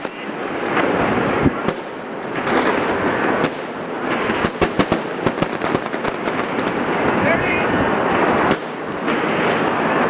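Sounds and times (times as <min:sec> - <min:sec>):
fireworks bangs and crackles: 0:00.0 - 0:10.0
fireworks hiss: 0:00.0 - 0:10.0.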